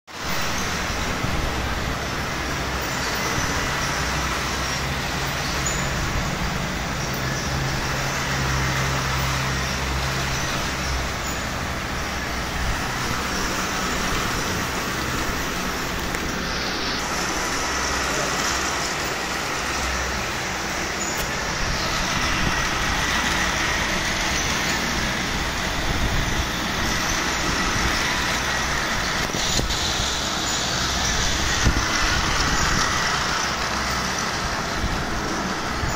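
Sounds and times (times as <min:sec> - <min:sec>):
toy trains whirring rattle: 0:00.1 - 0:35.9.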